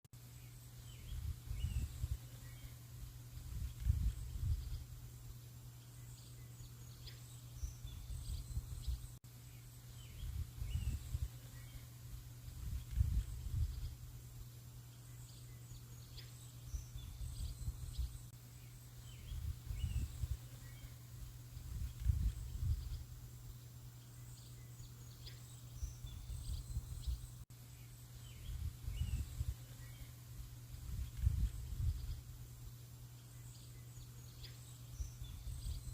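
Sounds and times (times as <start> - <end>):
small birds chirping: 0.2 - 30.2, 30.9 - 35.9.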